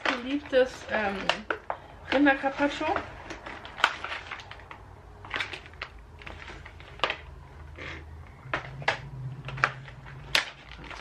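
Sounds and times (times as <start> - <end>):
plastic packaging rustling: 0.0 - 7.8, 8.4 - 11.0.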